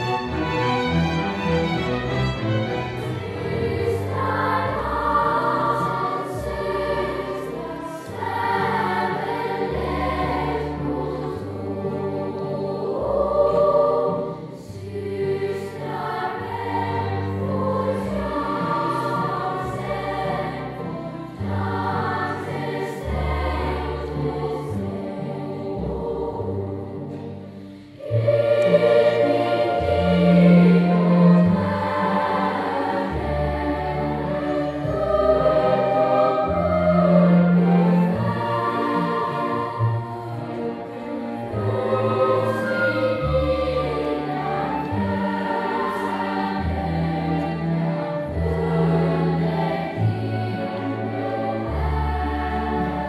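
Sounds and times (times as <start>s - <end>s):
children's choir singing: 0.0s - 53.0s
instrumental accompaniment: 0.0s - 53.0s.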